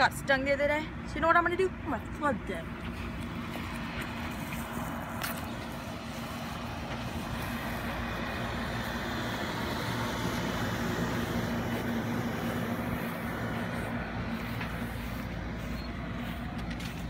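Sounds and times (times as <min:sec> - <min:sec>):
steady rushing noise: 0:03.3 - 0:17.0.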